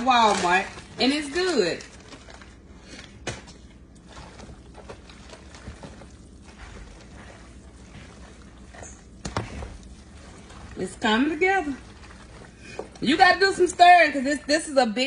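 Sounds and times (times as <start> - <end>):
wet mixing of pasta salad: 0.0 - 15.0.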